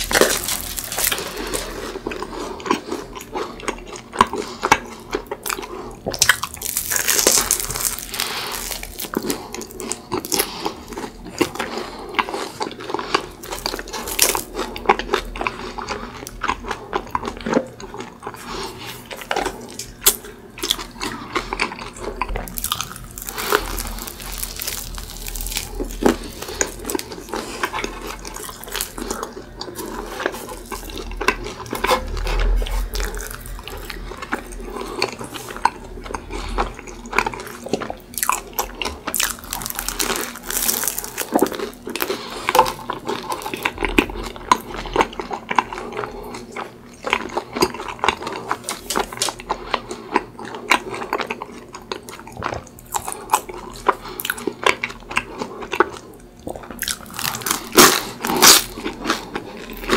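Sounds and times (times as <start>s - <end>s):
close chewing with crunches: 0.0s - 59.9s.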